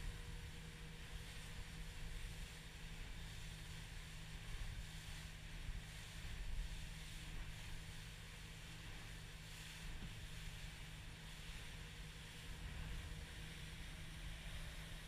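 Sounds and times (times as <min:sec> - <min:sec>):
motorboat engine drone: 0:00.0 - 0:15.0
water rushing along hull: 0:00.0 - 0:15.0.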